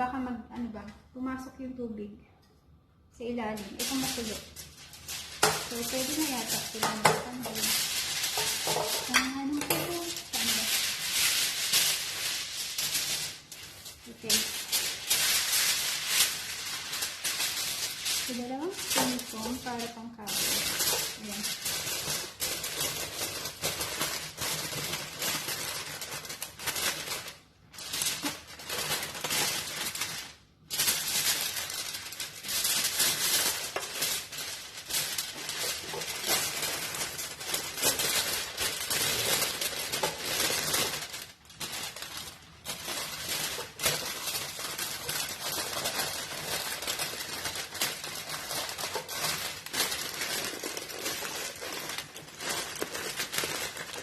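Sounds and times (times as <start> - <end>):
aluminium foil crinkling: 3.2 - 54.0.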